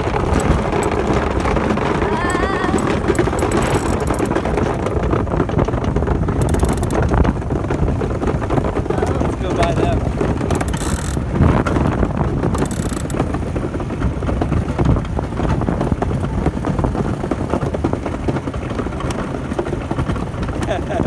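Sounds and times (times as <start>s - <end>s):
steel runners rumbling over ice: 0.0s - 21.0s
wind on microphone: 0.0s - 21.0s.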